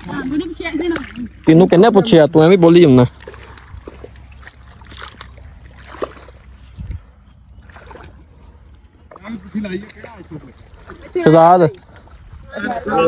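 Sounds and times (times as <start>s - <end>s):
water and mud sloshing: 0.0s - 13.0s.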